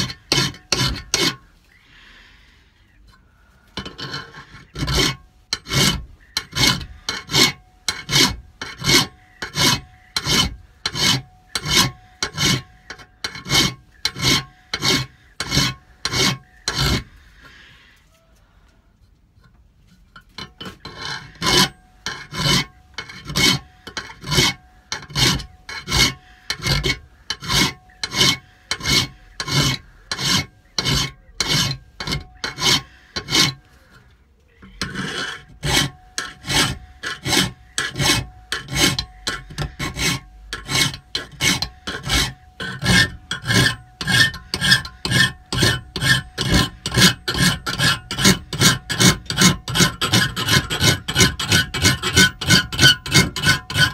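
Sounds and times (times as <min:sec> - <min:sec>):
file rasping on metal tube: 0:00.0 - 0:01.5, 0:03.8 - 0:17.2, 0:20.2 - 0:53.9.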